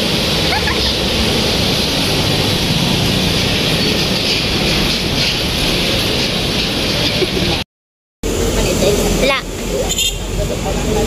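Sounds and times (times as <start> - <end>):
road traffic noise: 0.0 - 7.6, 8.2 - 11.0.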